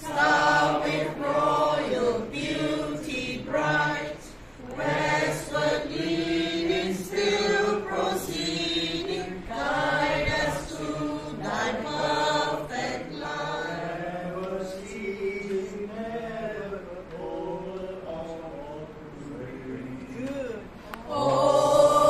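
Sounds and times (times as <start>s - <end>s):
group singing a carol: 0.0s - 22.0s.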